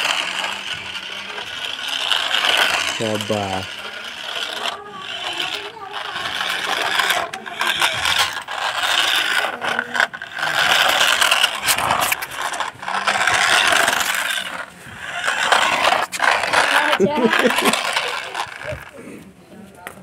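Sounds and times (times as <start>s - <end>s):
toy car motor whirring: 0.0s - 19.2s
tyres scraping on concrete: 0.0s - 20.0s.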